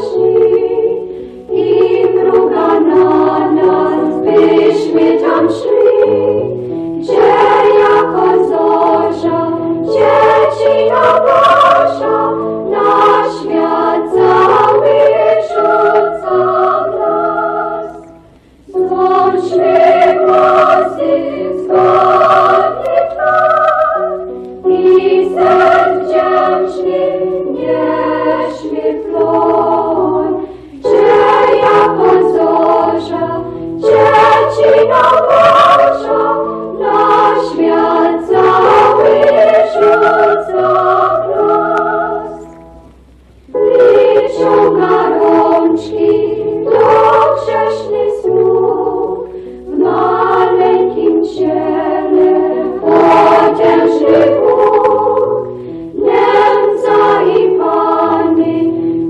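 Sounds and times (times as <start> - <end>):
women's choir singing a carol: 0.0 - 59.0.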